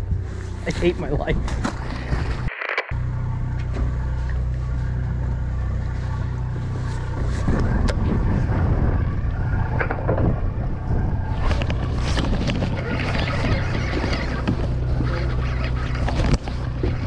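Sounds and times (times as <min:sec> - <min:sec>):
boat engine droning: 0:00.0 - 0:17.0
rough loud rumble: 0:00.0 - 0:17.0.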